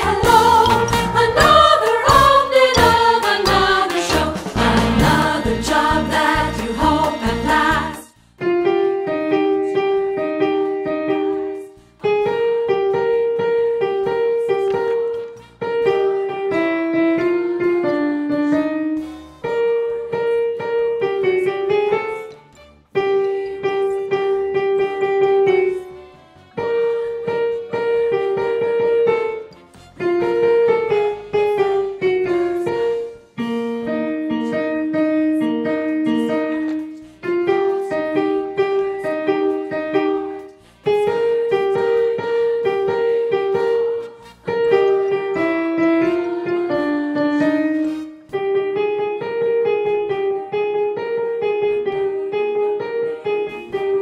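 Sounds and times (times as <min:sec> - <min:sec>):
piano playing: 0:00.0 - 0:54.0.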